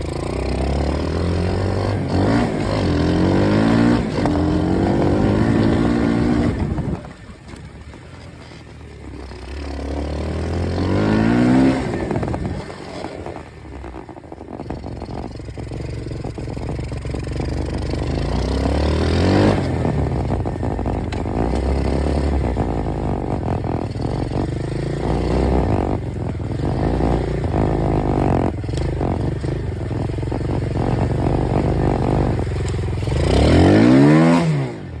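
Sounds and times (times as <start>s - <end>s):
dirt bike engine revving: 0.0s - 7.3s, 8.5s - 35.0s.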